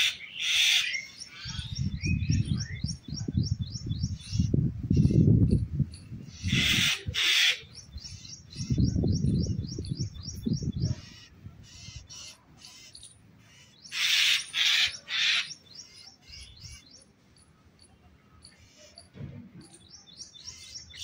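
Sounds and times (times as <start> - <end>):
harsh scratchy bird calls: 0.0 - 3.4, 4.0 - 21.0.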